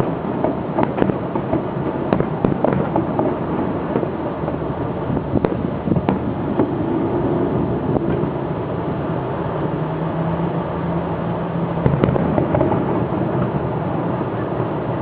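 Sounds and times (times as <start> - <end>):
firework bangs: 0.0 - 15.0
fireworks crackling and rumbling: 0.0 - 15.0.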